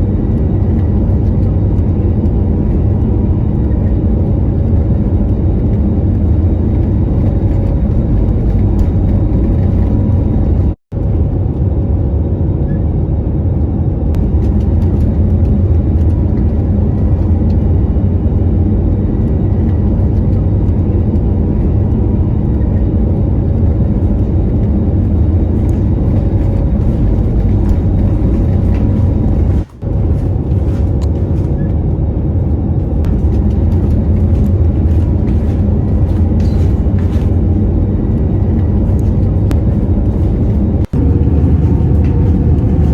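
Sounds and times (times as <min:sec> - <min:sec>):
airliner cabin noise: 0:00.0 - 0:42.9.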